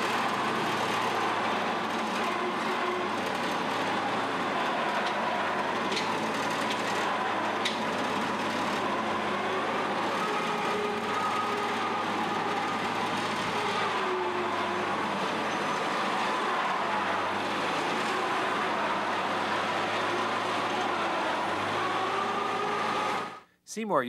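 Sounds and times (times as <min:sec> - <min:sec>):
engine running with whine: 0:00.0 - 0:23.4.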